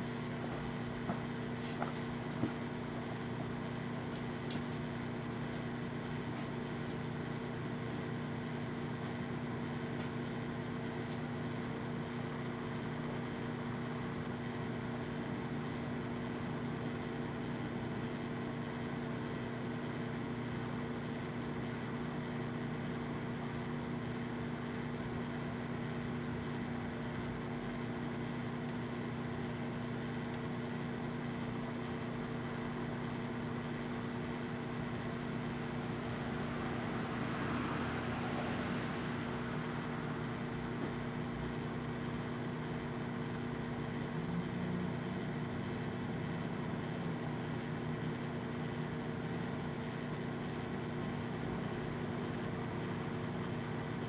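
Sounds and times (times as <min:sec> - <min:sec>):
microwave oven humming: 0:00.0 - 0:54.0.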